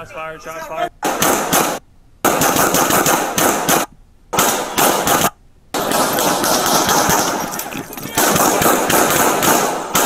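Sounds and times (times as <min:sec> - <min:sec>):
rapid handgun fire: 0:01.0 - 0:10.0.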